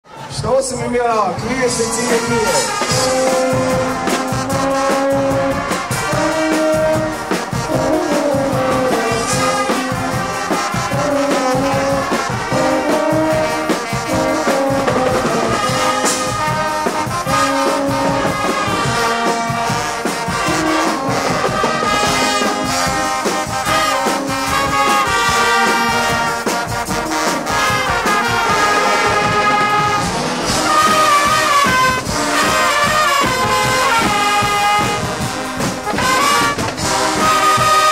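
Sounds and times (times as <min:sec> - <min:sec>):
brass band playing: 0:00.0 - 0:37.9
drum kit beat with cymbals: 0:00.4 - 0:37.9.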